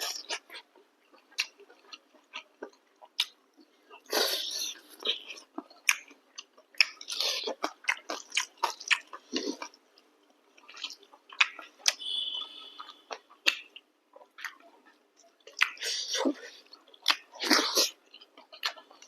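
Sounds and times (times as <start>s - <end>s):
chewing and mouth smacks: 0.0s - 19.0s.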